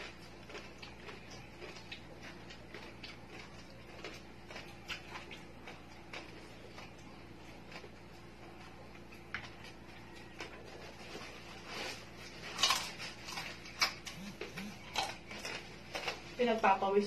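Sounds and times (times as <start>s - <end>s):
fingers picking at food: 0.0s - 16.8s
chewing and crunching crispy skin: 0.0s - 17.0s.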